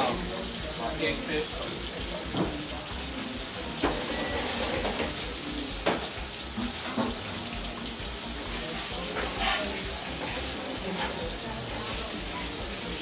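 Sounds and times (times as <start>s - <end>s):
fish sizzling in hot oil: 0.0s - 13.0s
metal utensils clinking on pans: 0.0s - 13.0s.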